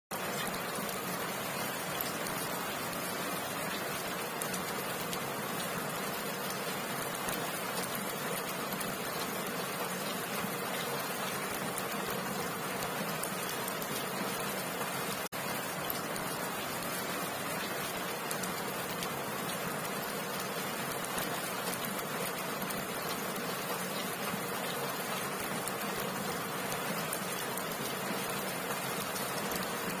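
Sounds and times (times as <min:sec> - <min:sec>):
heavy rain falling: 0:00.1 - 0:30.0.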